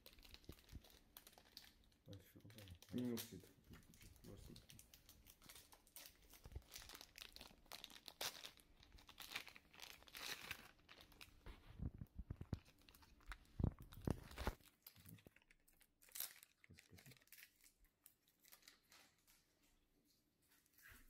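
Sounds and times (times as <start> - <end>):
plastic bags crinkling: 0.0 - 19.7.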